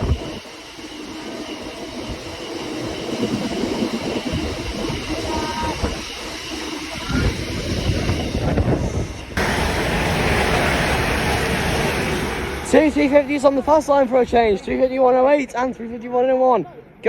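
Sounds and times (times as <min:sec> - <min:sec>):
freight train rumbling past: 0:00.0 - 0:16.3.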